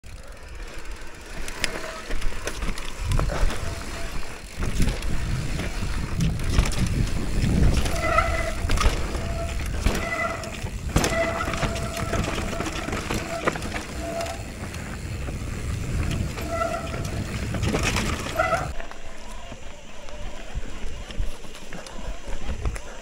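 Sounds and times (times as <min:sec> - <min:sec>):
bike tyre rumble: 0:00.0 - 0:23.0.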